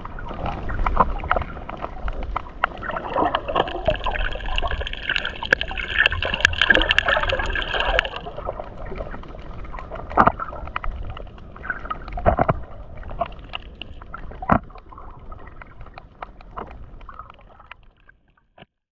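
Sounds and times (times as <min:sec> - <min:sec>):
underwater crackle of clicks: 0:00.1 - 0:18.7.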